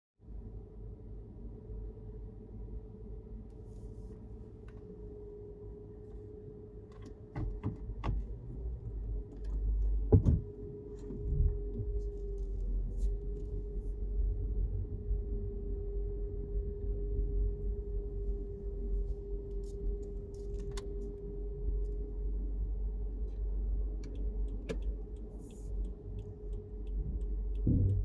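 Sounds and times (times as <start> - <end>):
constant mid-pitched hum: 0.2 - 28.0
engine and road rumble: 0.2 - 28.0.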